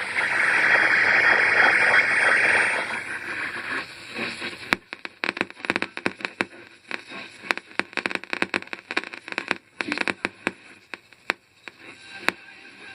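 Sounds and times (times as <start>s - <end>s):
radio static crackling: 0.0s - 12.9s
static hiss: 0.0s - 12.9s.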